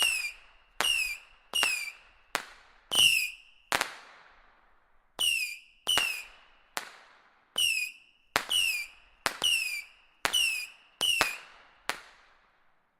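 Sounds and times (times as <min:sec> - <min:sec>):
whistling fireworks cracking: 0:00.0 - 0:12.6.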